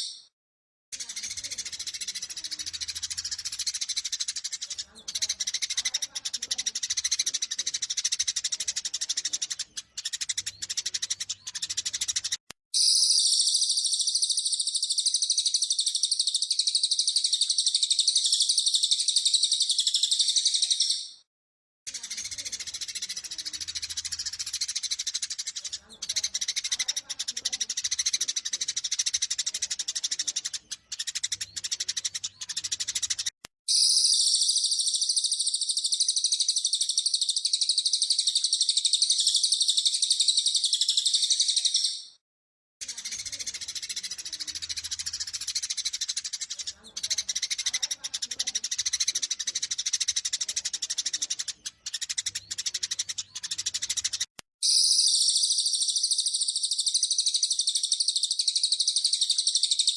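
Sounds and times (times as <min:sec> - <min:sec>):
dense high-pitched bird chatter: 0:00.0 - 0:00.3, 0:00.9 - 0:21.3, 0:21.9 - 0:42.2, 0:42.8 - 0:59.9
sparrows chirping: 0:00.0 - 0:00.3, 0:00.9 - 0:21.3, 0:21.9 - 0:42.2, 0:42.8 - 0:59.9.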